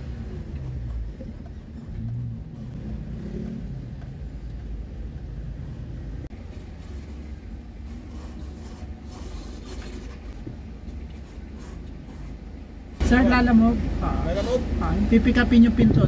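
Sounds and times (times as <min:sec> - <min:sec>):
van engine and road noise: 0:00.0 - 0:16.0.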